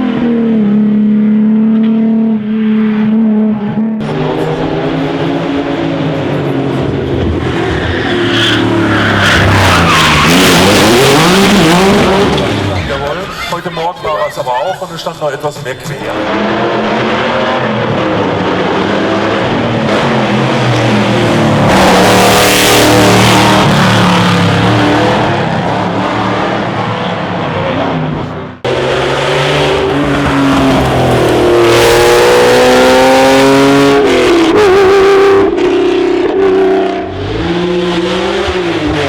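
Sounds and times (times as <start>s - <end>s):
racing car engines accelerating: 0.0s - 39.0s.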